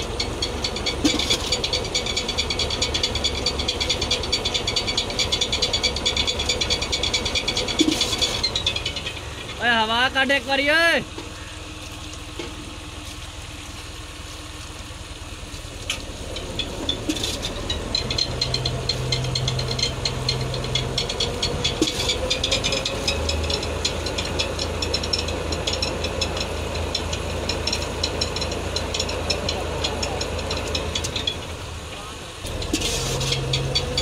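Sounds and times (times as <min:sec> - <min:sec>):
pump pipe rattle: 0:00.0 - 0:34.0
tractor engine running: 0:00.0 - 0:34.0.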